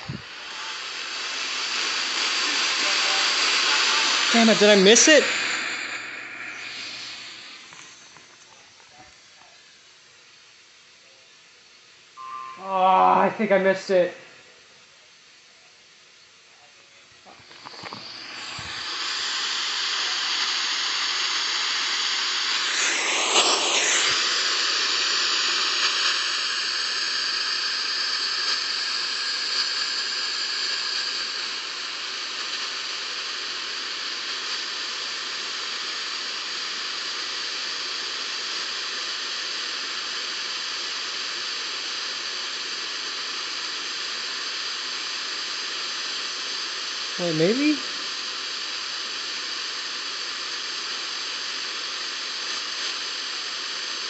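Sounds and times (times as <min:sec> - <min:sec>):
radio static hiss: 0:00.0 - 0:54.0.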